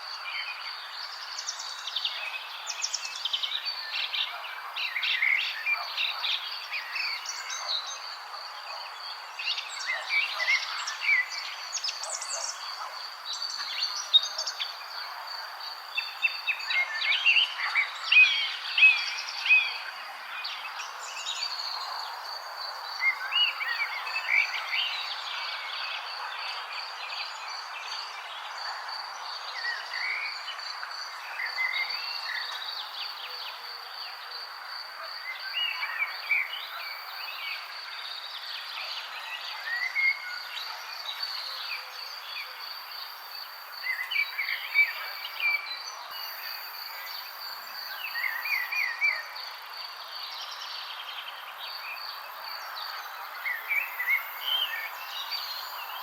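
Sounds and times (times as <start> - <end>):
songbirds chirping and warbling: 0.0 - 56.0.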